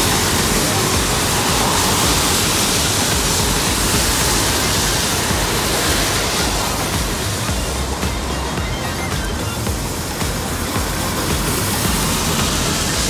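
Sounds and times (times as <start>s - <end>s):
low traffic rumble: 0.0s - 13.0s
tyres hissing on wet road: 0.0s - 13.0s.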